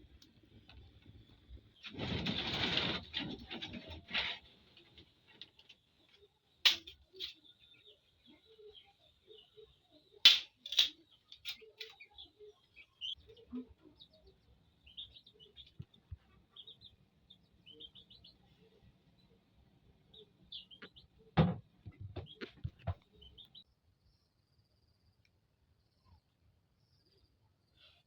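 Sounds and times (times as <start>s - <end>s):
small birds chirping: 3.1s - 28.0s.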